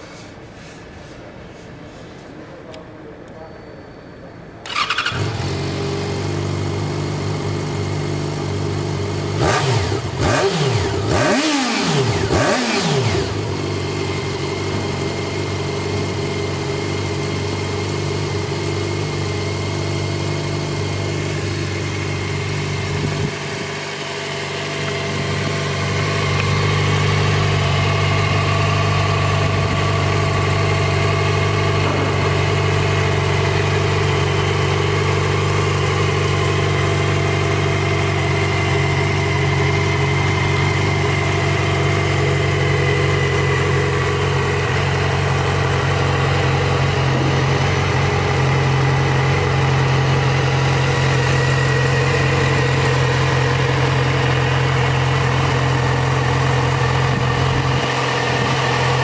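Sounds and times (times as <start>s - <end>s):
motorcycle engine idling: 4.6s - 59.0s.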